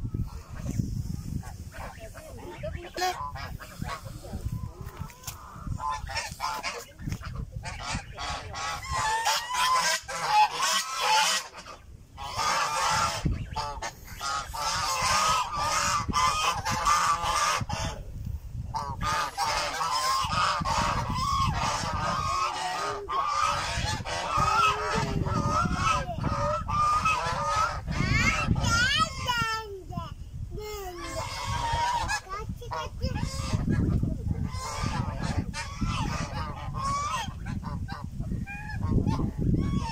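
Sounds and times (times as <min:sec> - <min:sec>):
geese honking: 0:00.2 - 0:18.0, 0:18.7 - 0:29.4, 0:31.0 - 0:39.9.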